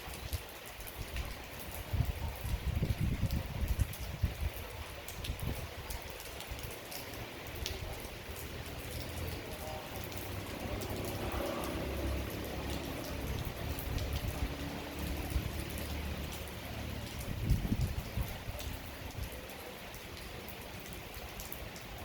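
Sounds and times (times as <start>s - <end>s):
rain drops ticking: 0.0s - 22.0s.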